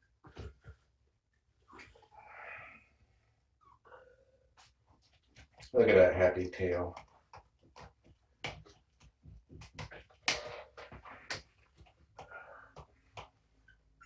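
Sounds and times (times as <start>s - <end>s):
kittens moving and playing: 0.0s - 2.2s, 4.4s - 14.0s.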